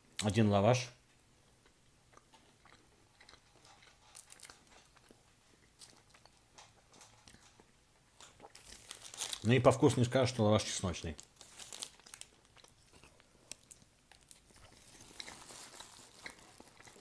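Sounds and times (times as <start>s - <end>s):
person chewing: 1.4s - 9.4s, 11.2s - 17.0s.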